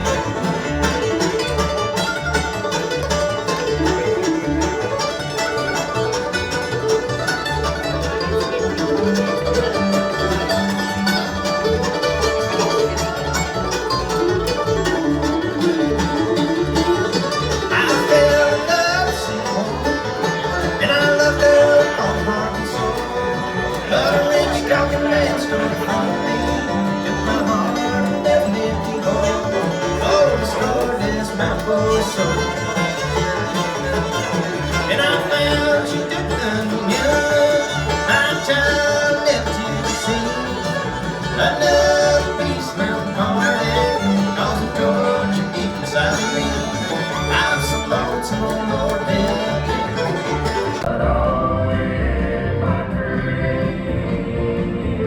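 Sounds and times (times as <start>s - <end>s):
fiddle bowed line: 0.0s - 51.6s
country string band: 0.0s - 55.0s.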